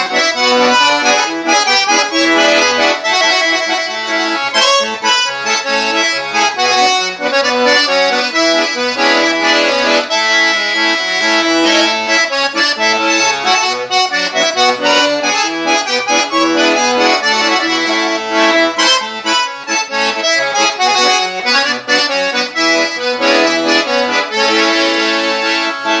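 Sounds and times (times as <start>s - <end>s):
accordion melody: 0.0s - 26.0s.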